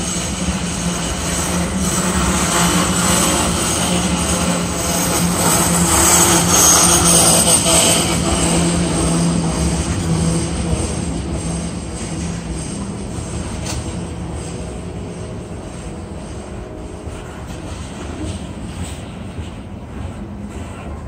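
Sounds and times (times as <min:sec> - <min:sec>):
freight train rolling past: 0:00.0 - 0:21.0
low hum: 0:00.0 - 0:21.0.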